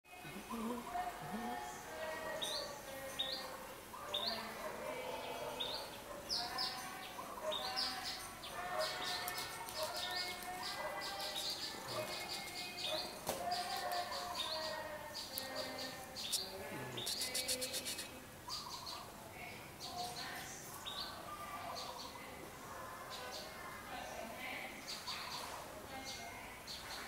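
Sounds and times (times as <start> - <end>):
birds chirping and calling: 0.1 - 22.3, 23.0 - 27.0.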